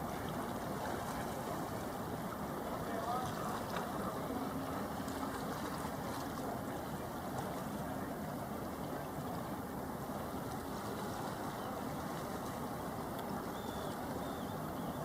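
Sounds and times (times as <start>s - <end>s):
water noise: 0.0s - 15.0s
wind: 0.0s - 15.0s.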